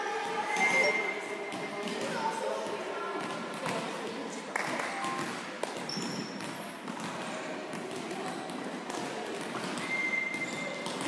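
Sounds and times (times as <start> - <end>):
volleyballs thudding: 1.5 - 4.0, 4.6 - 11.0.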